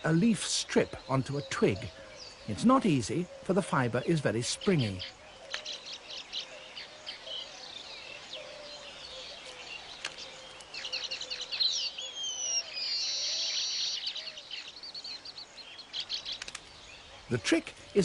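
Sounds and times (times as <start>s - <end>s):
weaver birds chirping: 0.0s - 18.0s.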